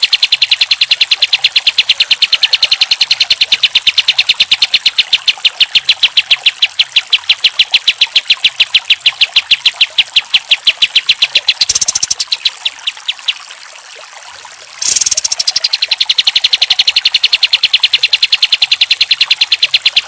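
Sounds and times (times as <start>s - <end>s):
bulbul singing rapid rattling notes: 0.0s - 13.4s, 14.8s - 20.0s.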